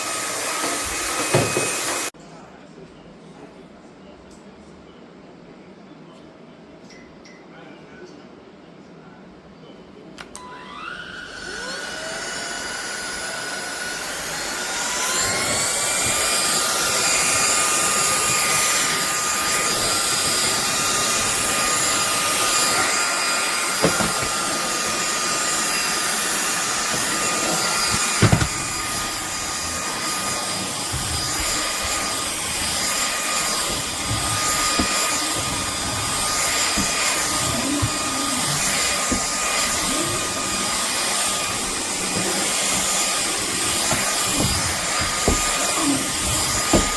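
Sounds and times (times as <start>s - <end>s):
stick vacuum cleaner running: 0.0s - 2.1s, 10.2s - 46.9s.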